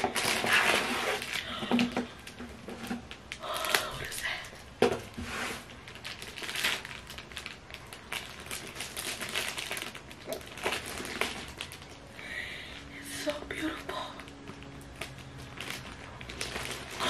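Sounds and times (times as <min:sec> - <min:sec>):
plastic wrapping crinkling: 0:00.0 - 0:12.9, 0:13.5 - 0:17.0.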